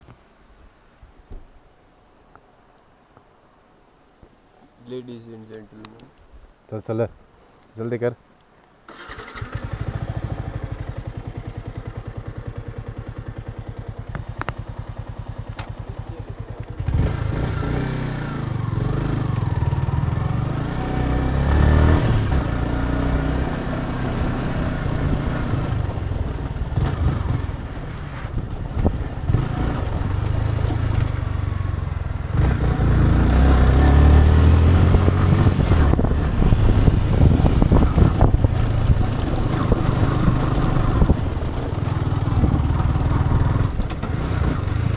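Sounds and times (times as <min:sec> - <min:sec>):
motorcycle engine: 0:08.9 - 0:44.9.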